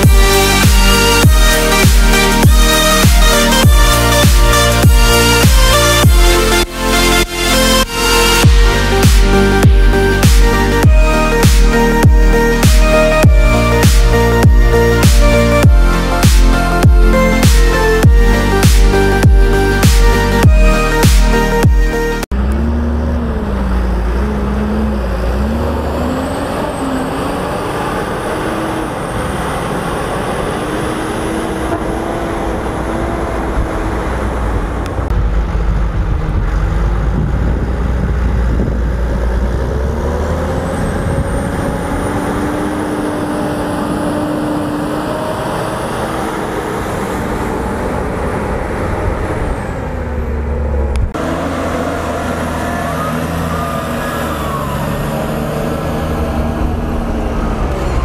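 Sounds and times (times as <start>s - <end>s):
high whine: 0.0s - 58.0s
tractor diesel engine under load: 0.0s - 58.0s.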